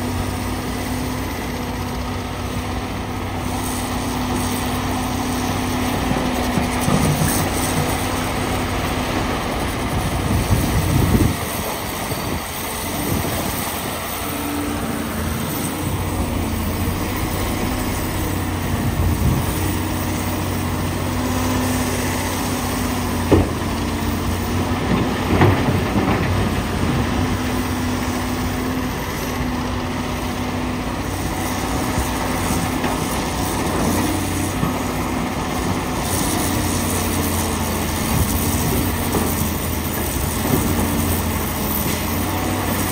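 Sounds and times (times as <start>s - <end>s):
excavator diesel engine under load: 0.0s - 42.9s.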